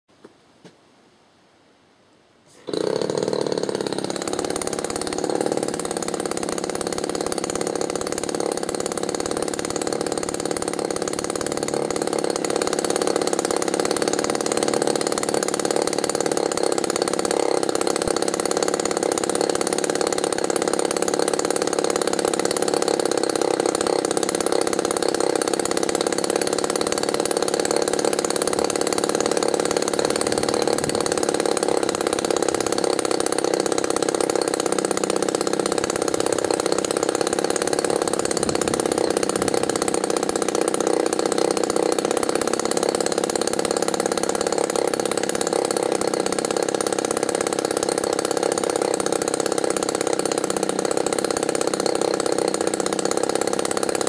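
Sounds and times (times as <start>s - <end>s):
model aircraft engine idling: 2.7s - 54.0s.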